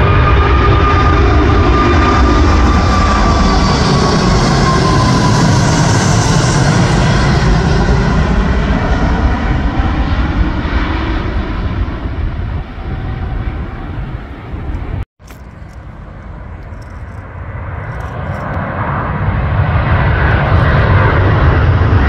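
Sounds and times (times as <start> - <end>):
jet engine roar overhead: 0.0 - 22.0.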